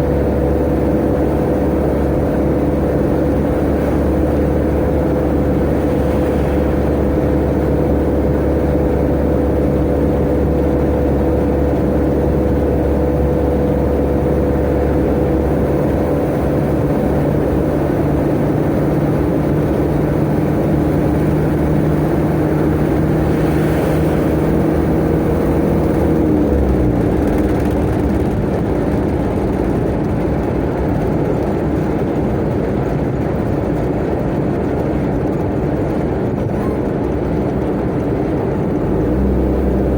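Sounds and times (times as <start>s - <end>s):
road and wind noise: 0.0s - 39.9s
truck engine running: 0.0s - 39.9s.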